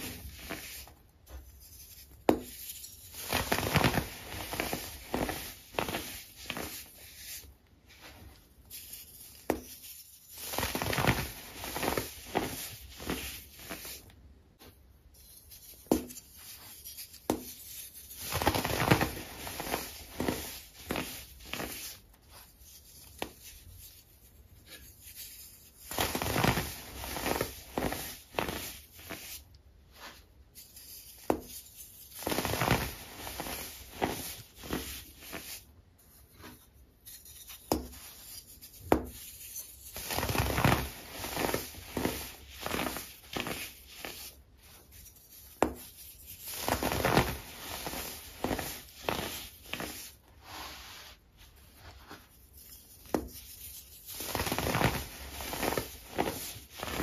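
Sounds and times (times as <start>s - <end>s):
gritty crunches of crumbling powder: 0.0s - 23.9s, 24.6s - 57.0s.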